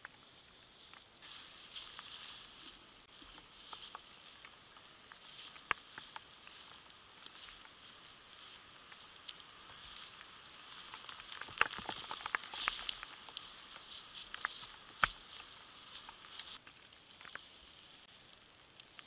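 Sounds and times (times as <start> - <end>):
wet snow pattering: 0.0 - 19.0.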